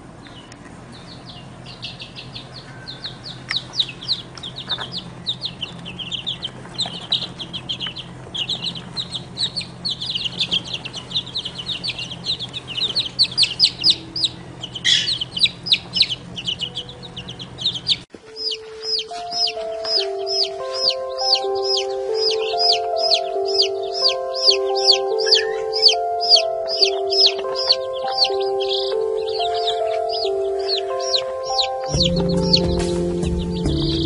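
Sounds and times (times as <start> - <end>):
baby birds cheeping: 0.0 - 34.0.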